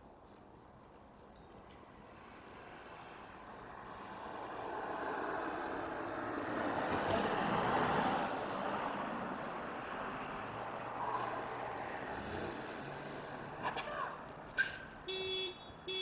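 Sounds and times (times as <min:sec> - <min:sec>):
car approaching: 0:02.0 - 0:15.1.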